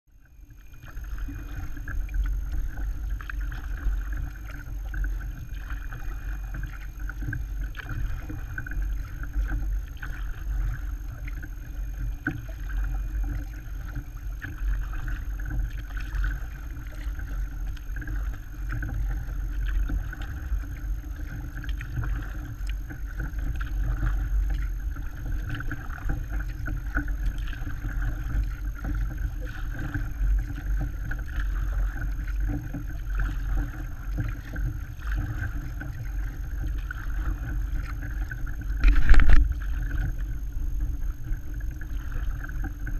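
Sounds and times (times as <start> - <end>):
water rushing around kayak: 0.1 - 42.9.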